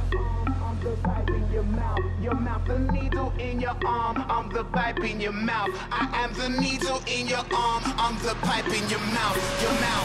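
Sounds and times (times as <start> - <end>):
heavy bass line: 0.0 - 10.0
rapping: 0.6 - 10.0.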